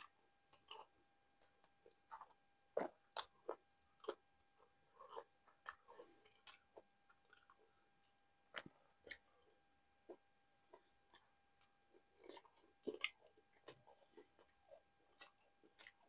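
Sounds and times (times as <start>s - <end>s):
soft chewing: 0.0s - 16.0s.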